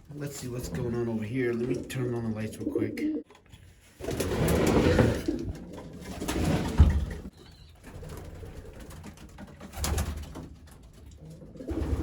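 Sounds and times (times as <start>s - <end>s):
pigeons cooing: 0.1s - 3.3s, 4.3s - 9.9s, 10.8s - 12.0s.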